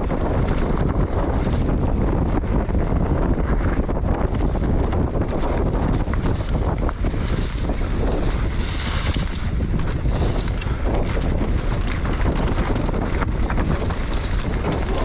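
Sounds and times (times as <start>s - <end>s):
bike knocks and rattles: 0.0s - 15.0s
tyres rolling on dirt trail: 0.0s - 15.0s
wind on microphone: 0.0s - 15.0s.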